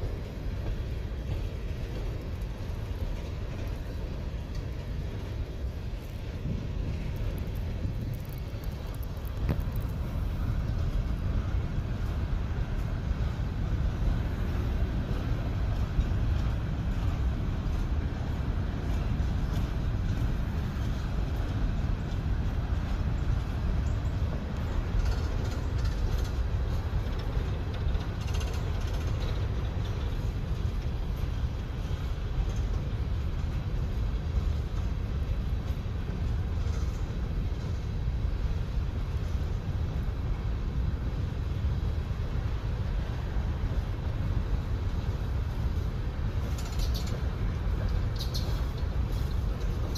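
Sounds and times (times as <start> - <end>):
train rolling past: 0.0 - 49.9.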